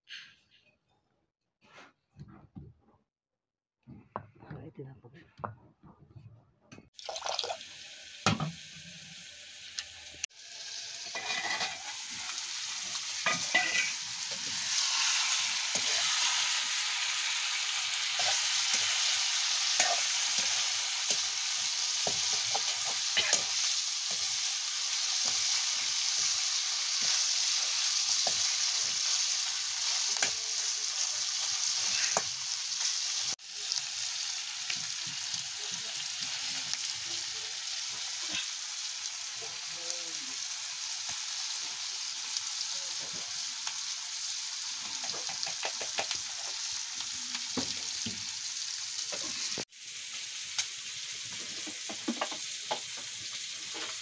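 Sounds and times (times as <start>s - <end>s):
curry sizzling in hot oil: 6.9s - 54.0s.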